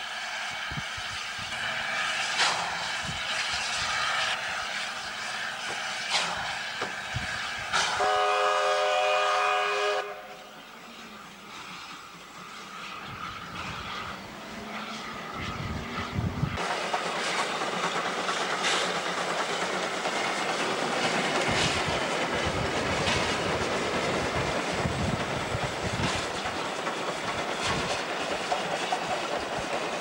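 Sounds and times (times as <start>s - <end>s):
train rushing: 0.0s - 30.0s.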